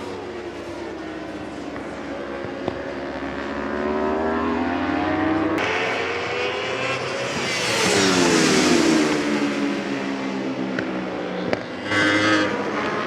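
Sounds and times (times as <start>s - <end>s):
motorcycle engine accelerating: 0.0s - 13.0s
motorcycle passing by: 0.3s - 13.0s.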